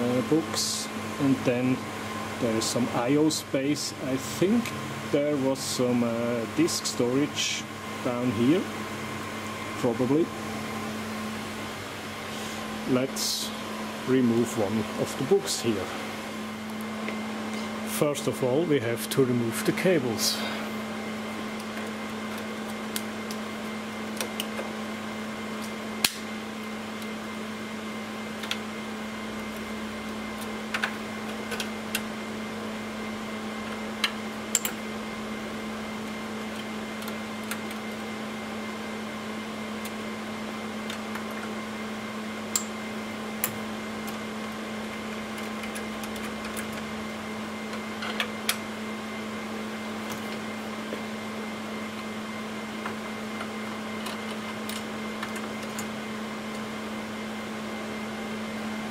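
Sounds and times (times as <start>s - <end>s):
machine hum: 0.0s - 58.9s.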